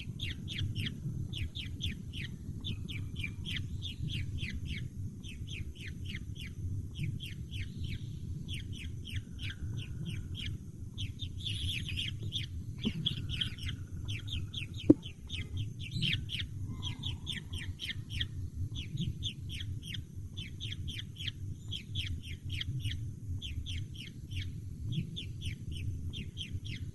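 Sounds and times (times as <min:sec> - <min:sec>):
steady low rumble: 0:00.0 - 0:26.9
young birds peeping: 0:00.0 - 0:26.9.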